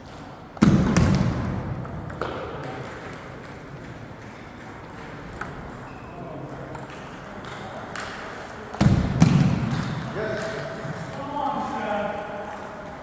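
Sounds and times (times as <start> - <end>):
table tennis ball hit: 0.6 - 11.3.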